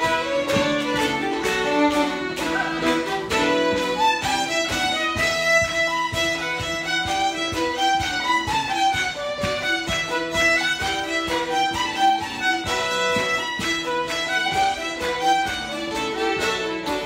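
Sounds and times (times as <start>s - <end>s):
fiddles playing a lively tune: 0.0s - 17.0s
plucked string instrument strumming: 0.0s - 17.0s.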